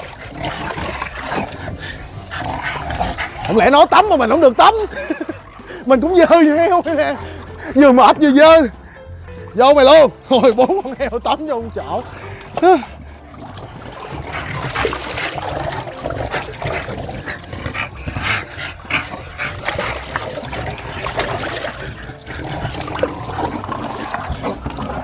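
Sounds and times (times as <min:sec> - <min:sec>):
dogs breathing hard: 0:00.0 - 0:11.1, 0:11.9 - 0:25.0
water sloshing and trickling: 0:00.0 - 0:25.0.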